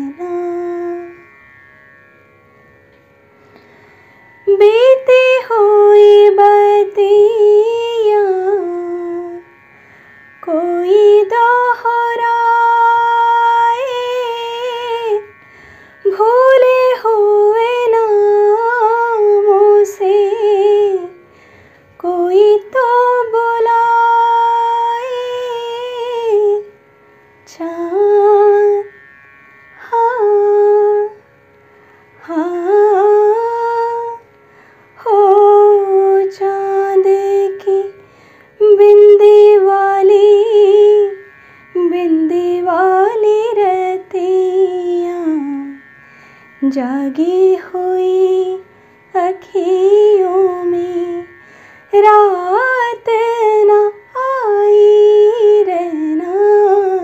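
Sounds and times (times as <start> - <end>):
woman singing unaccompanied: 0.0 - 1.2, 4.4 - 9.5, 10.4 - 15.3, 16.0 - 21.2, 22.0 - 26.8, 27.4 - 28.9, 29.8 - 31.2, 32.2 - 34.4, 35.0 - 38.0, 38.6 - 45.8, 46.6 - 57.0.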